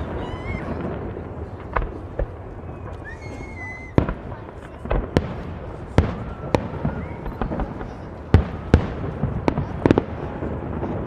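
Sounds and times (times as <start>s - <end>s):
fireworks crackle and echo: 0.0s - 11.0s.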